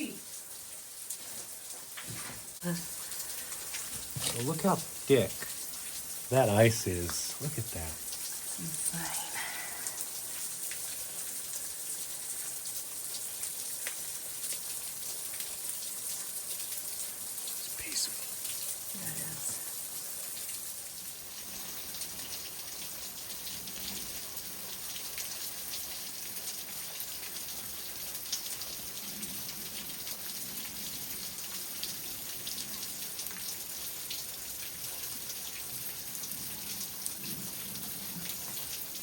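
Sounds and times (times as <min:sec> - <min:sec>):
water dripping onto rock and ice: 0:00.0 - 0:39.0.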